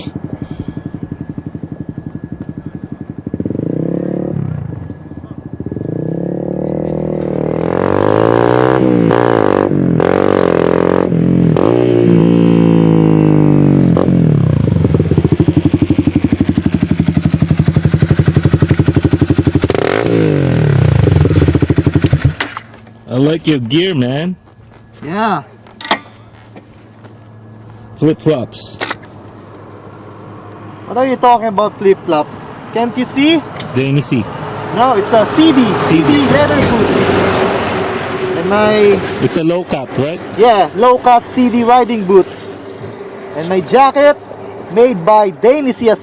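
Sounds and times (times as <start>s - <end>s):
motorcycle passing by: 0.0s - 22.5s, 26.2s - 46.0s
motorcycle engine revving: 0.0s - 23.5s, 26.2s - 45.9s.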